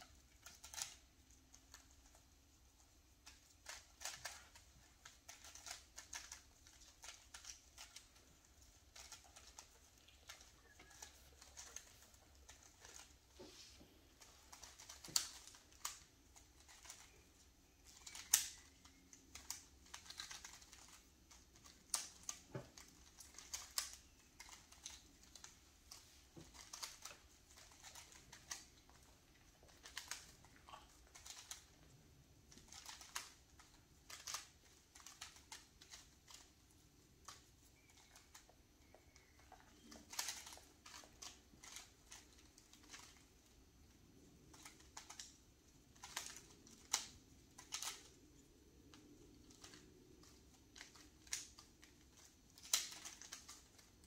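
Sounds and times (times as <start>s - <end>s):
puzzle cubes clicking as twisted: 0.1s - 2.2s, 3.2s - 13.3s, 14.2s - 54.0s.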